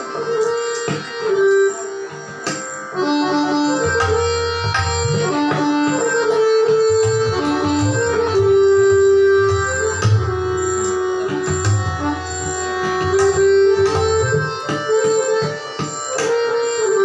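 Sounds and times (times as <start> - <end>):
harmonium melody: 0.0 - 17.0
tabla strokes: 0.4 - 17.0.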